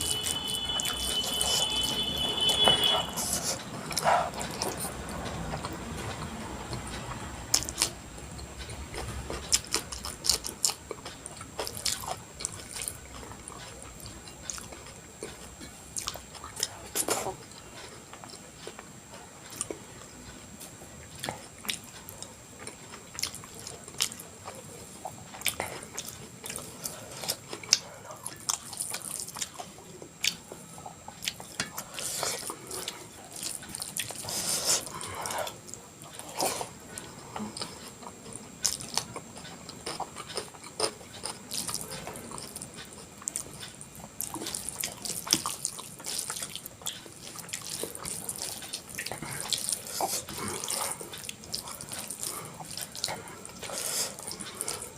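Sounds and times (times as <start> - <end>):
wet chewing and lip smacks: 0.0 - 54.9.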